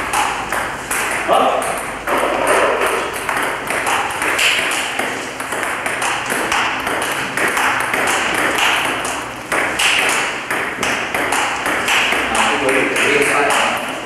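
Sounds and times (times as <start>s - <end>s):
table tennis ball clicking: 0.0s - 14.0s.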